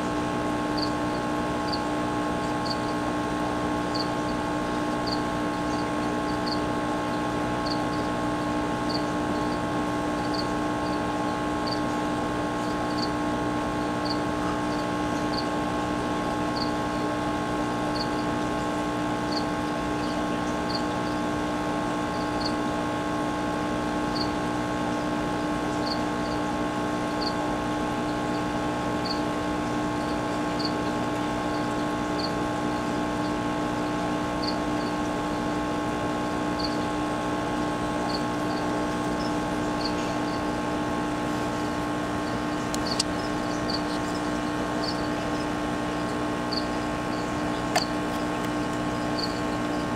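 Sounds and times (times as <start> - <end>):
steady machine hum: 0.0 - 49.9.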